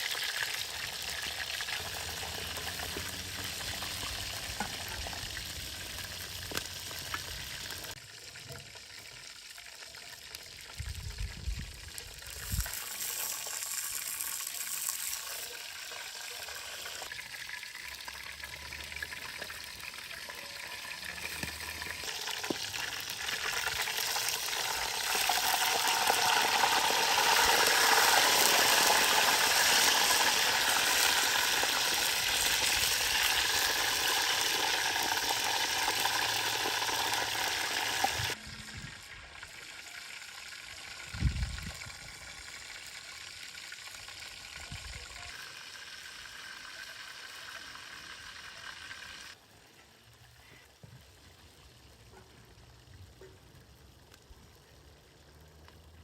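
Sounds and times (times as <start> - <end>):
food sizzling in a pan: 0.0 - 49.4.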